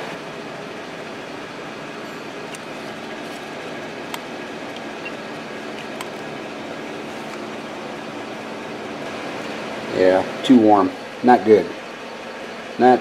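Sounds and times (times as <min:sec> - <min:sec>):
electric fans whirring: 0:00.0 - 0:13.0.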